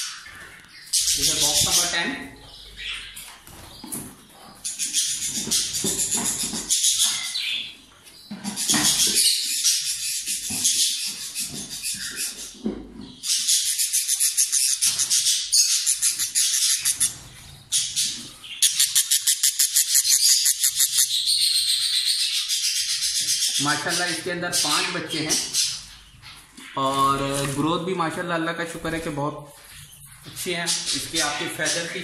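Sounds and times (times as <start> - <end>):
cockatiel chicks giving raspy calls: 0.0 - 27.6, 29.6 - 32.0.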